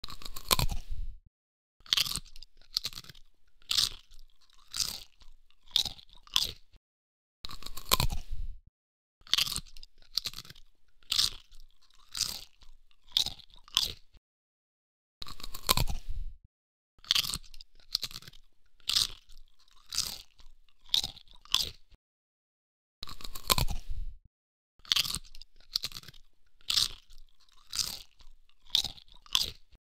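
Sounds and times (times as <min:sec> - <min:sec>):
person chewing crunchy food: 0:00.0 - 0:01.2, 0:01.8 - 0:06.8, 0:07.4 - 0:08.6, 0:09.2 - 0:14.2, 0:15.2 - 0:16.4, 0:17.0 - 0:22.0, 0:23.0 - 0:24.2, 0:24.8 - 0:29.8.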